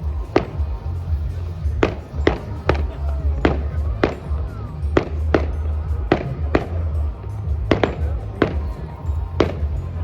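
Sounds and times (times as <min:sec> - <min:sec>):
fireworks exploding: 0:00.0 - 0:10.0
loud music with heavy bass: 0:00.0 - 0:10.0.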